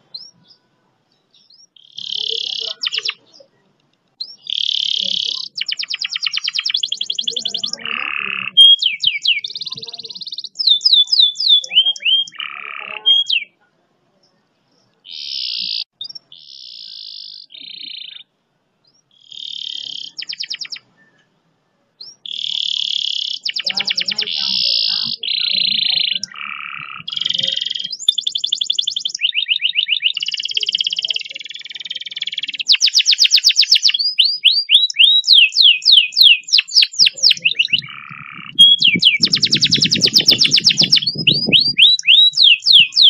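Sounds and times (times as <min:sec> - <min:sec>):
canary singing trills: 0:00.0 - 0:13.6, 0:14.2 - 0:21.4, 0:22.0 - 0:43.0.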